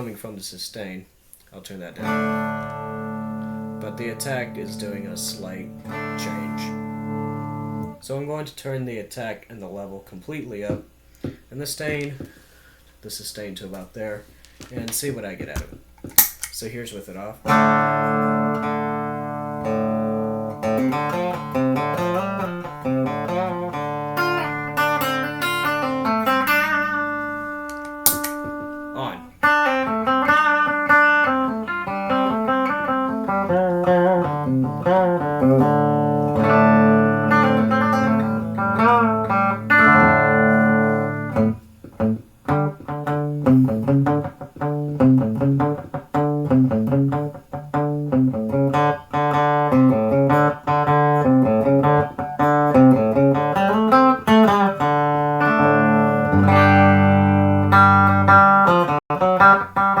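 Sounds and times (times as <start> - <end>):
electric guitar melody: 2.0 - 8.0, 17.5 - 60.0.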